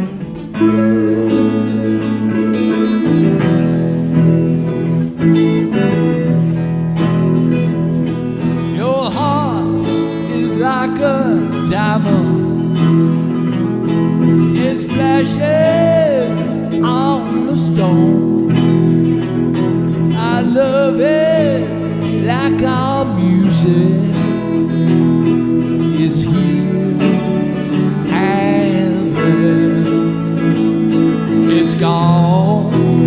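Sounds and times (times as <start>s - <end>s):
bending lead melody: 0.0s - 33.0s
strummed acoustic guitar: 0.0s - 33.0s.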